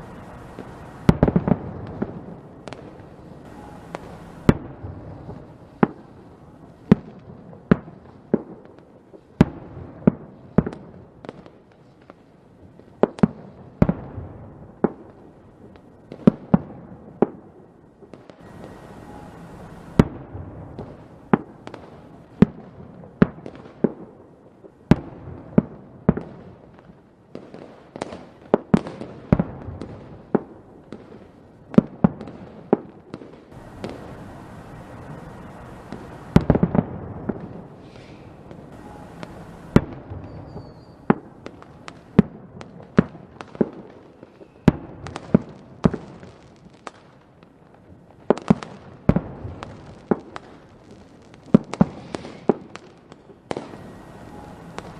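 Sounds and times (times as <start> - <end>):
fireworks exploding: 0.0 - 54.9
low continuous crackle: 0.0 - 54.9.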